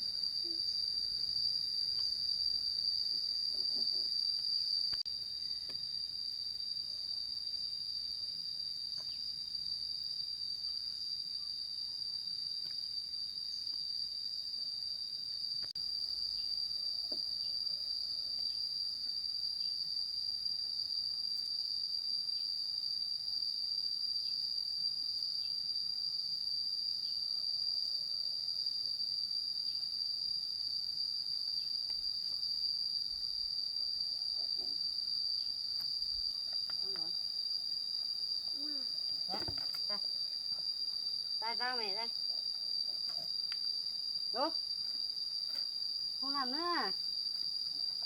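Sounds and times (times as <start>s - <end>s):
insects trilling drone: 0.0s - 48.0s.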